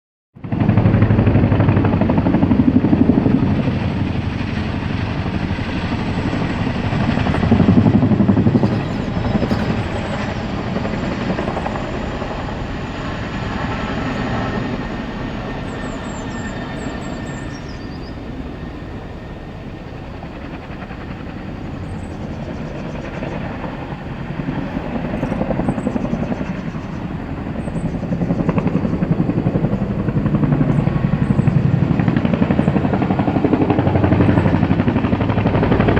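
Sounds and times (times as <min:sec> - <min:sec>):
helicopter rotor beat: 0:00.4 - 0:35.9.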